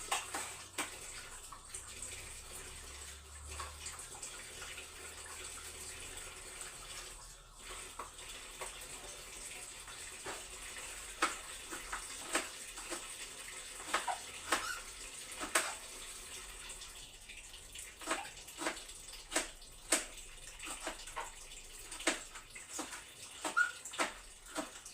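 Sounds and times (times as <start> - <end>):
tap water running into sink: 0.0 - 24.9.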